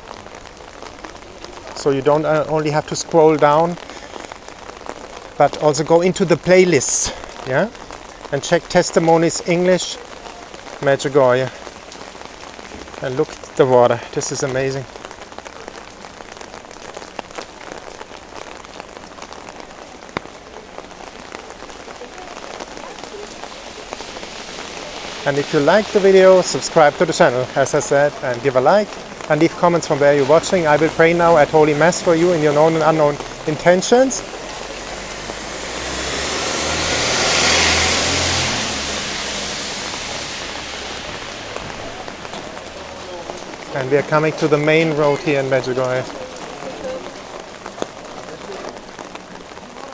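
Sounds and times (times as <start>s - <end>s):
heavy rain on an umbrella: 0.0s - 49.9s
vehicle passing on wet road: 0.0s - 49.9s.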